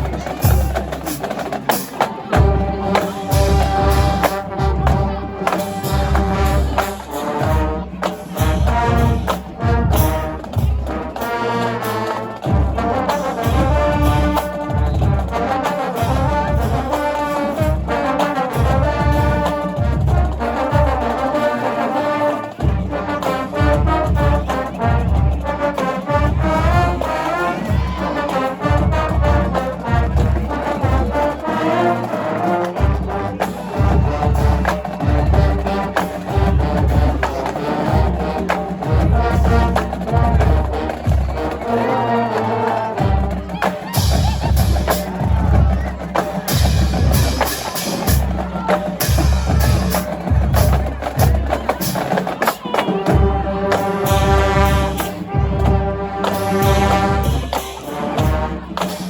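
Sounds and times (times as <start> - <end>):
brass section playing melody: 0.0 - 59.0.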